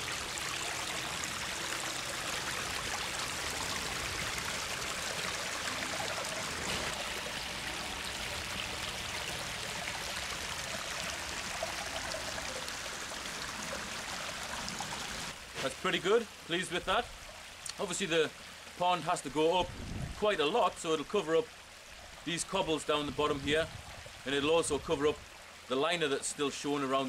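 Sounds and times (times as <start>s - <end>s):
water splashing over rocks: 0.0s - 23.6s.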